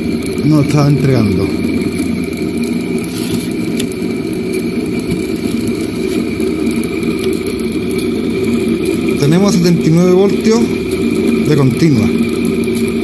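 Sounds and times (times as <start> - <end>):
fan motor whirring with high whine: 0.0 - 13.0.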